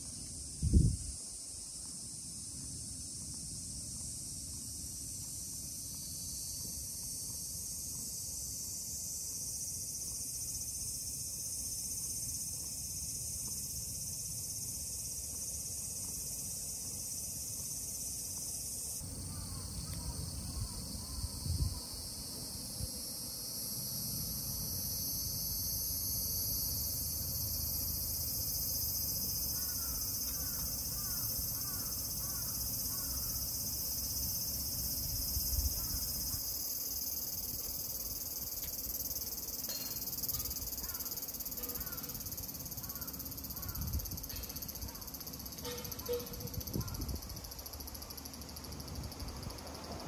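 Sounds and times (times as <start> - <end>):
insects chorusing: 0.0 - 50.0.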